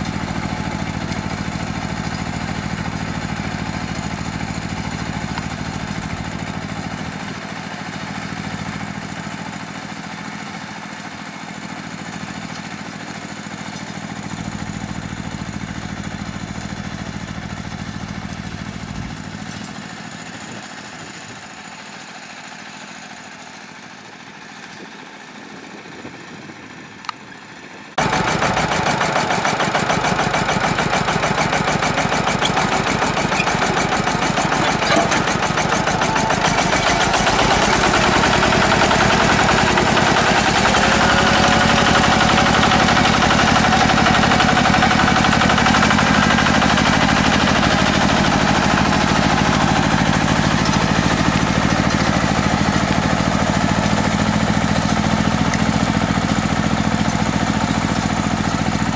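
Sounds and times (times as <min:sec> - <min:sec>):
tractor engine chugging: 0:00.0 - 0:58.9.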